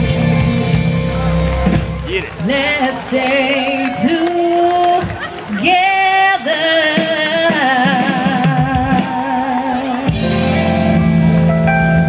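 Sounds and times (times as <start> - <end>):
live band over pa: 0.0 - 12.0.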